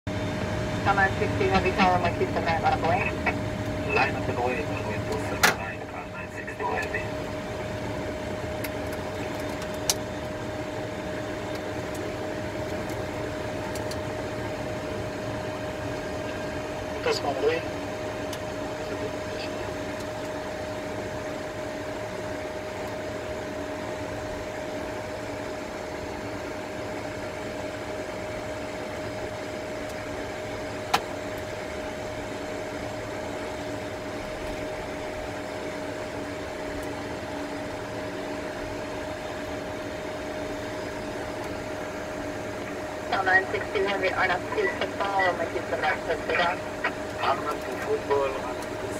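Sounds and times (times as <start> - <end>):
aircraft cockpit hum: 0.0 - 48.9.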